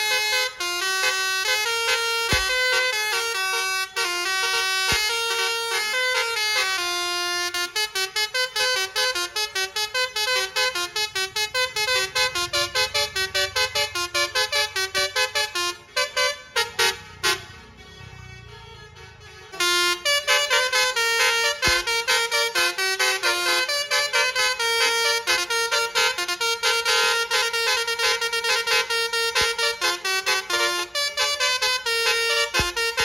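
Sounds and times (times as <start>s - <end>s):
multi-tone bus horn playing a tune: 0.0s - 33.0s.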